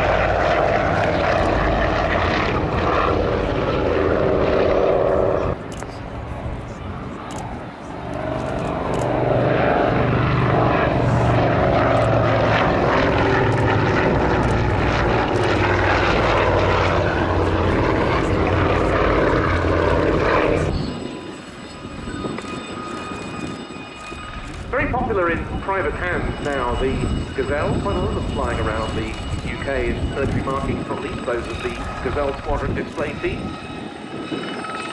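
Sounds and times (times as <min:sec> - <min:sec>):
helicopter turbine whine: 0:00.0 - 0:34.9
propeller aircraft flying past: 0:00.0 - 0:34.9.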